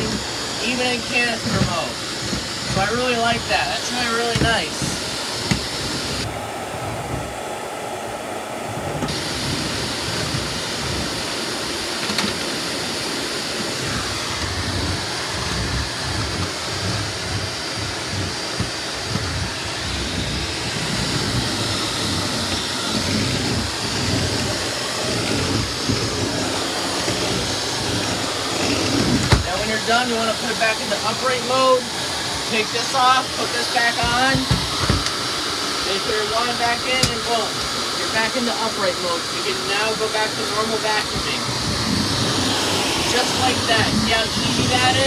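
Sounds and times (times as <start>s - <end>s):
vacuum cleaner running: 0.0s - 45.0s
vacuum nozzle on hardwood floor: 0.0s - 45.0s.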